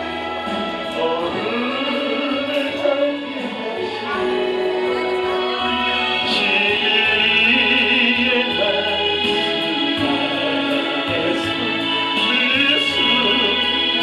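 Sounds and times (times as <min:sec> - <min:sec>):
gospel singing: 0:00.0 - 0:14.0
instrumental accompaniment: 0:00.0 - 0:14.0.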